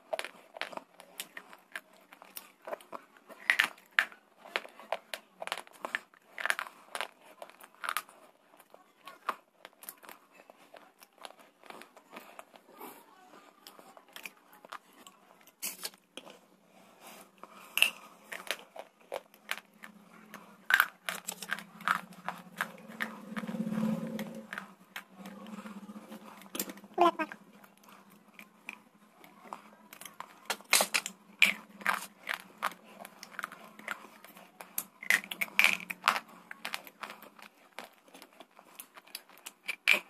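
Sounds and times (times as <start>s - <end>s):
crunching and chewing: 0.0s - 40.0s.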